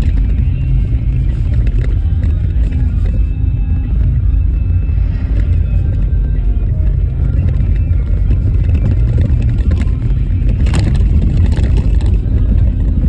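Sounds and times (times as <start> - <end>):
car tyres rumbling on rough road: 0.0 - 13.0.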